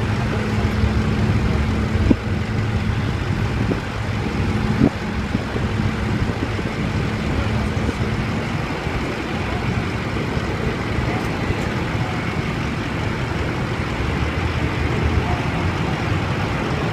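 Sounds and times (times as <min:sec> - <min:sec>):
low engine drone: 0:00.0 - 0:16.9.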